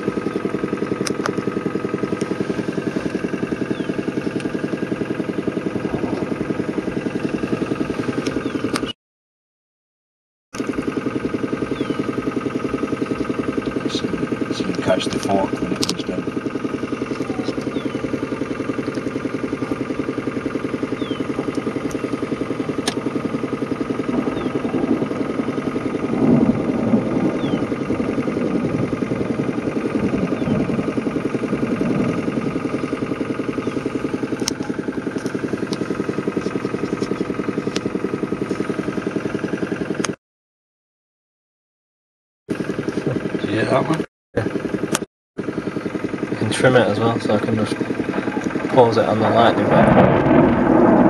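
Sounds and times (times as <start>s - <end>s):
car engine idling: 0.0s - 8.9s, 10.6s - 40.2s, 42.5s - 51.0s.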